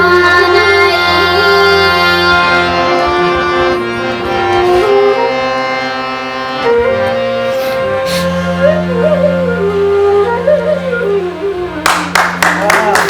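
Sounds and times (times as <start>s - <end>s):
reed instrument playing held notes: 0.0s - 13.0s.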